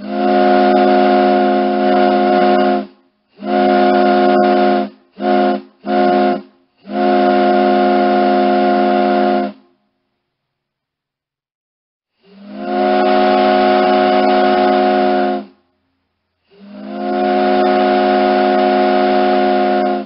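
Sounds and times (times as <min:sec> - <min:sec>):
ship's horn blasts: 0:00.0 - 0:09.7, 0:12.3 - 0:15.6, 0:16.5 - 0:20.0.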